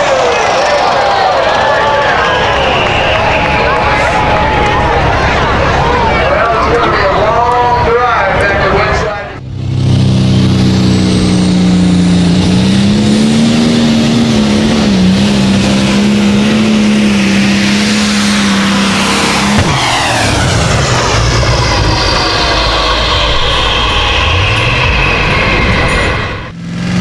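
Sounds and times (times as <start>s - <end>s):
tractor engine at full throttle: 0.0s - 27.0s.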